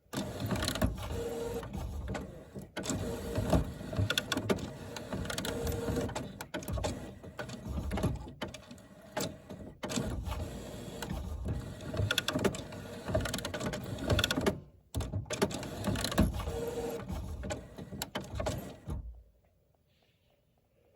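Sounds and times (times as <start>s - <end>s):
printer mechanism clicking and whirring: 0.1s - 19.2s.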